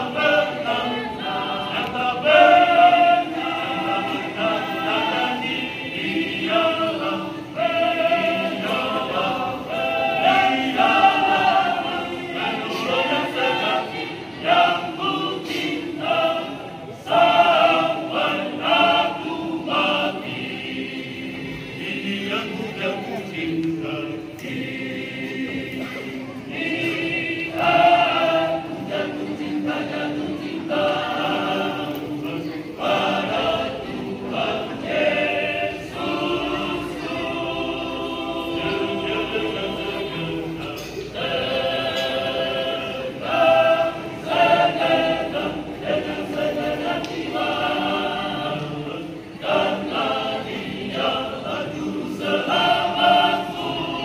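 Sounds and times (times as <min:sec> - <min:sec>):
men singing a cappella in harmony: 0:00.0 - 0:54.0.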